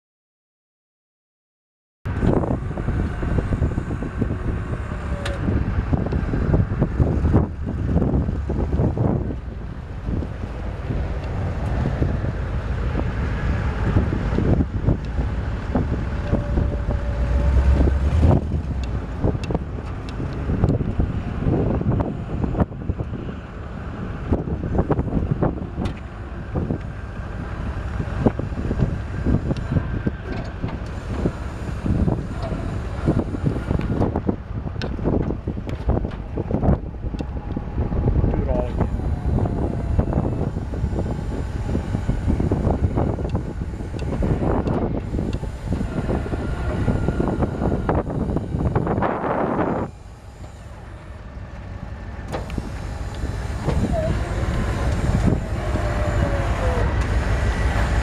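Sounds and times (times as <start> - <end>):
truck engine idling: 2.1 - 58.0
wind buffeting microphone: 2.1 - 58.0.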